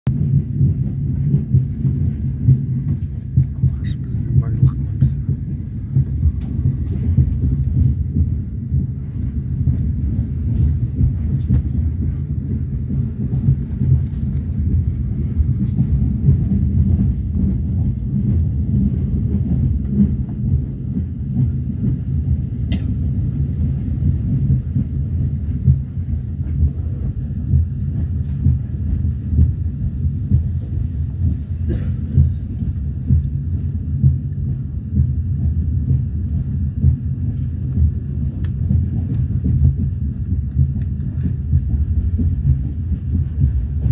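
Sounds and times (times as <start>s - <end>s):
train rumbling inside carriage: 0.0s - 43.9s.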